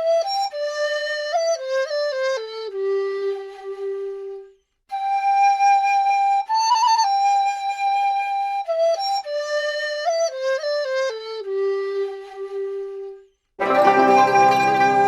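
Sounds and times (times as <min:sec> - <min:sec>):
solo flute-like melody: 0:00.0 - 0:15.0.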